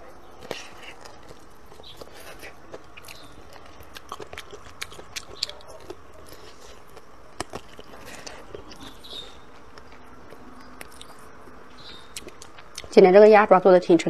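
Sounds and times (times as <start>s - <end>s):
teeth crunching on bone: 0.4s - 12.9s.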